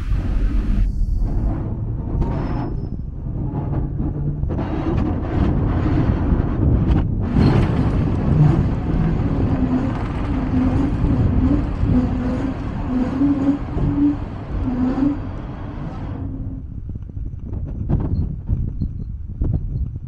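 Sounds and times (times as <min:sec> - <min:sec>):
tram motor hum: 0:00.0 - 0:17.7
tram wheels rumbling: 0:00.0 - 0:18.5.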